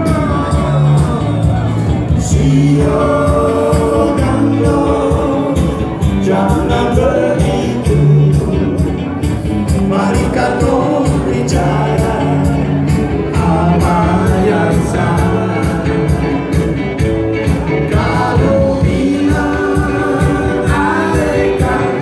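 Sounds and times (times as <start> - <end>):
person singing: 0.0 - 16.8, 17.5 - 22.0
live band playing dance music: 0.0 - 22.0.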